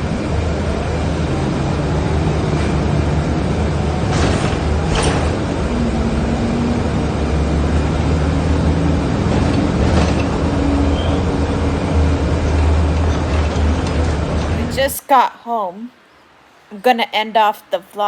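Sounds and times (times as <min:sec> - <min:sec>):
road vehicle rumble: 0:00.0 - 0:15.0
faint hum: 0:00.0 - 0:18.0.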